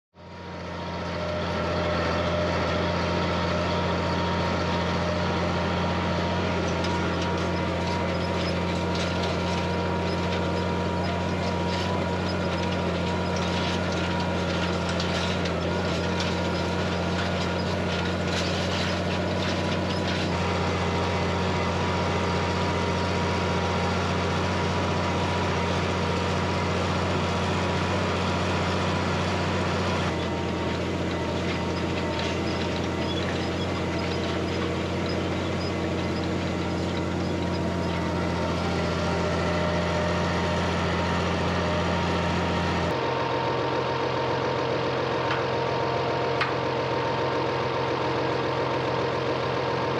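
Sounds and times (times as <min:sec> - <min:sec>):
tractor engine running: 0:00.1 - 0:49.9.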